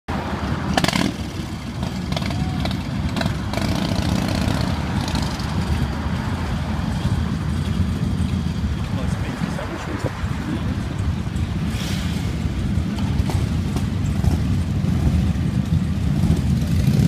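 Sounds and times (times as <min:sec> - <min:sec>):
motorcycle engines idling: 0:00.3 - 0:17.0.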